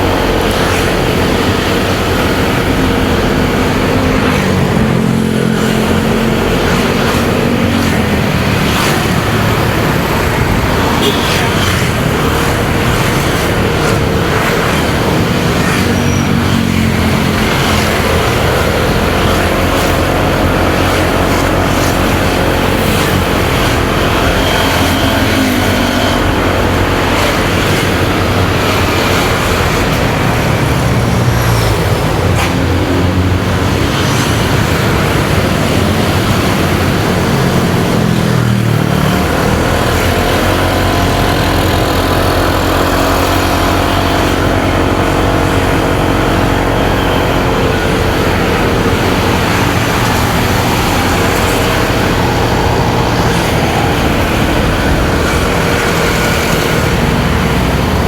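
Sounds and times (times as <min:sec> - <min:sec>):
motorcycle engine running: 0:00.0 - 0:58.0
road traffic engines: 0:00.0 - 0:58.0
wind rush: 0:00.0 - 0:58.0.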